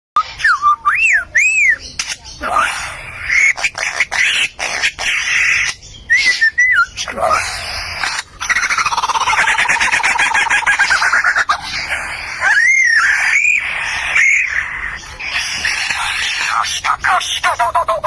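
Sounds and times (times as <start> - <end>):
bird whistles and trills: 0.2 - 18.0.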